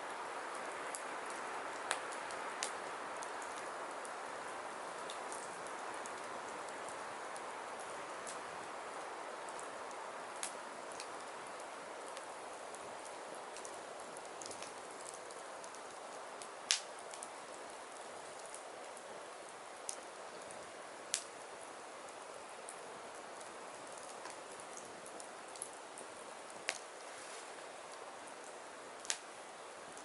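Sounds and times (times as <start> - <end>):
fire crackling and popping: 0.0 - 30.0
firewood burning hiss: 0.0 - 30.0.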